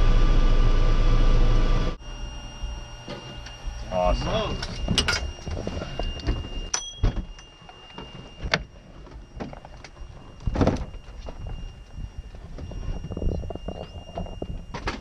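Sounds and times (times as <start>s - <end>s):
faint steady high tone: 2.0s - 15.0s.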